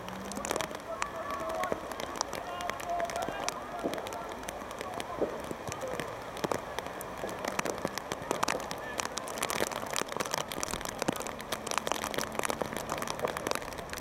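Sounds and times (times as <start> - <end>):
dense crackling clicks: 0.0 - 14.0
faint distant voices: 0.3 - 14.0.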